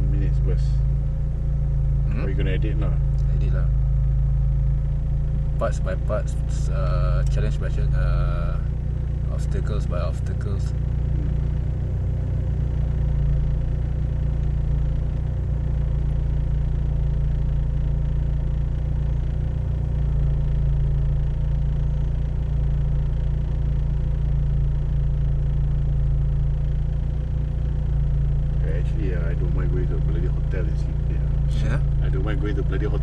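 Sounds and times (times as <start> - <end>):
off-road engine rumbling: 0.0 - 33.0.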